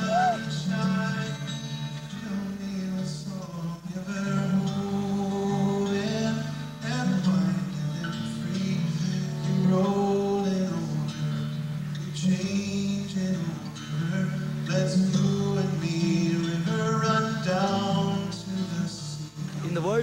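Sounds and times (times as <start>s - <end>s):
guitar background music: 0.0s - 20.0s.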